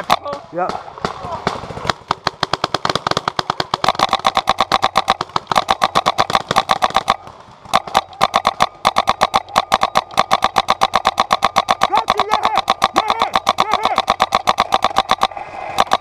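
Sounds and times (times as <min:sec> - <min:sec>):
paintball marker firing rapidly: 0:00.0 - 0:16.0.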